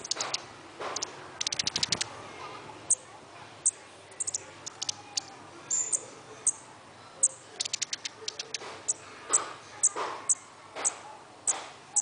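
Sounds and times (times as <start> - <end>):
songbird chipping: 0.0 - 2.1, 2.9 - 12.0.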